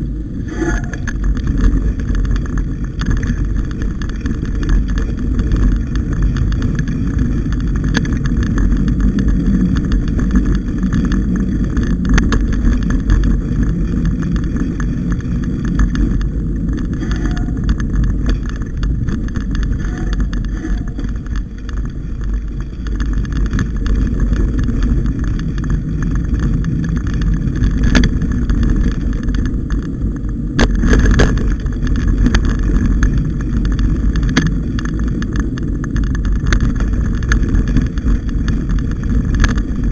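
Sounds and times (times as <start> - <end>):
bike trail vibration rumble: 0.0 - 39.9
wind on microphone: 0.0 - 39.9.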